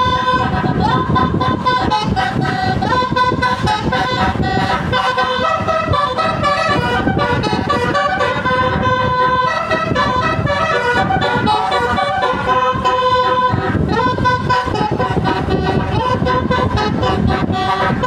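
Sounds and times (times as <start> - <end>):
bus musical horn playing a tune: 0.0 - 18.0.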